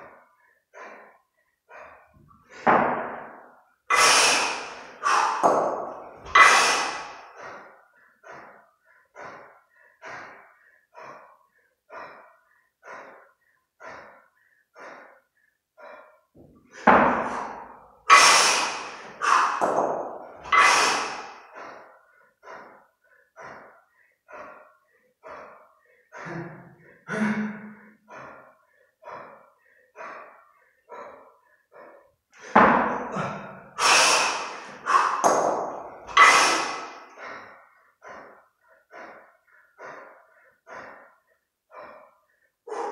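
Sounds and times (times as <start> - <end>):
forceful exhalations: 0.0 - 42.9
heavy rhythmic breathing: 0.0 - 42.9.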